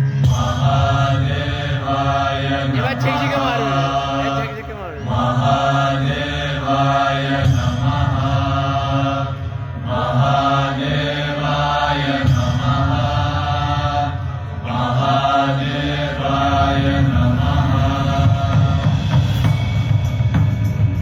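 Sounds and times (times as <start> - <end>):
voices chanting: 0.4 - 18.8.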